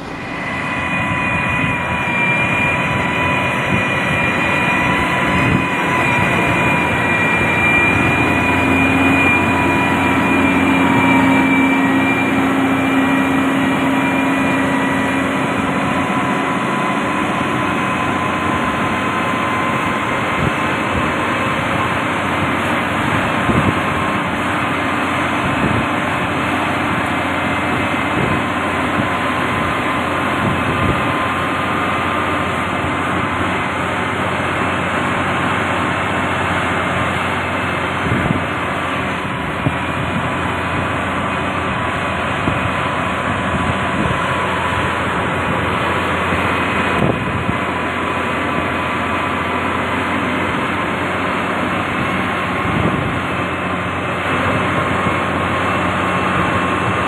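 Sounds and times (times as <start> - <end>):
construction machinery engine: 0.0 - 57.0
high whine: 0.0 - 57.0
low hum: 0.0 - 57.0.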